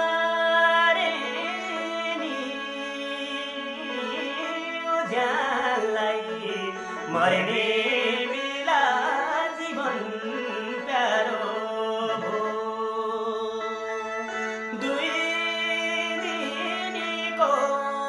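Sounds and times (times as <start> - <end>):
person singing folk song: 0.0 - 18.0.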